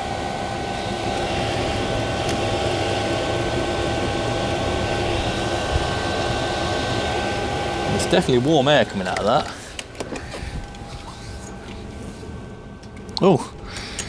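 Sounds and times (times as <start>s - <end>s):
heater blower fan whining: 0.0s - 14.0s.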